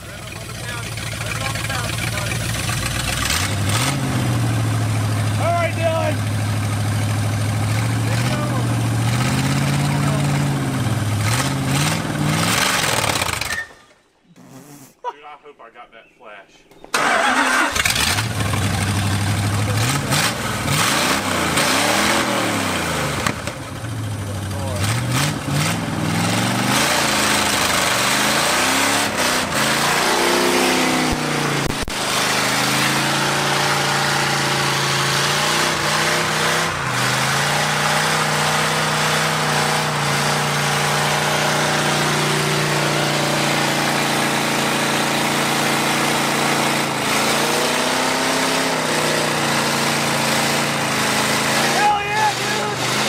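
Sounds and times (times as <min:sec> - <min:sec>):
car engine revving hard: 0:00.0 - 0:13.5, 0:17.0 - 0:53.0.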